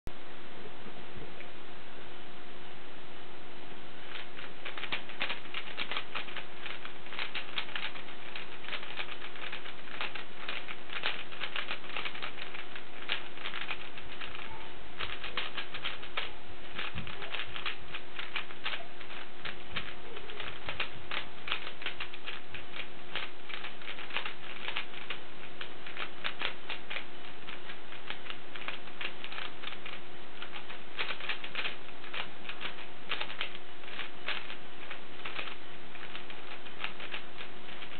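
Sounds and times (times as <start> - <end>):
puzzle cube clicking: 4.1 - 37.9.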